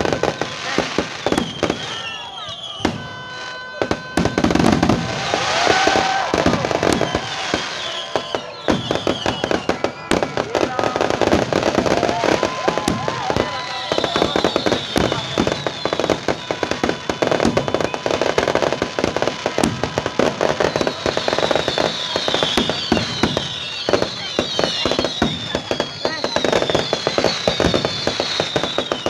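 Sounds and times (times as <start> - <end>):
fireworks bangs and crackles: 0.0 - 29.0
high wavering firework whistles: 0.0 - 29.0.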